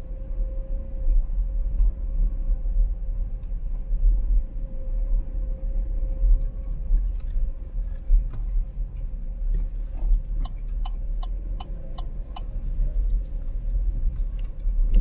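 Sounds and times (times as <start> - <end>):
car rumbling: 0.0 - 15.0
faint steady whine: 0.0 - 15.0.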